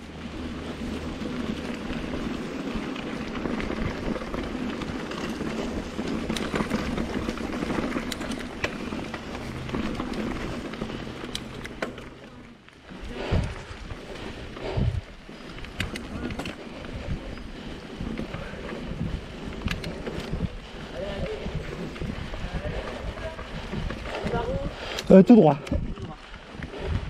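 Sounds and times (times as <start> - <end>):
bike clicks and rattles: 0.0 - 27.0
bike tyres on dirt and stones: 0.0 - 27.0.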